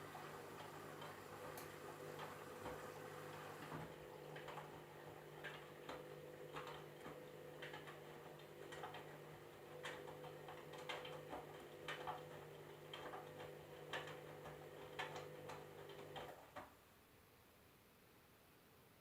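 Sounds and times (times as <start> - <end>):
washing machine motor humming: 0.0 - 16.6.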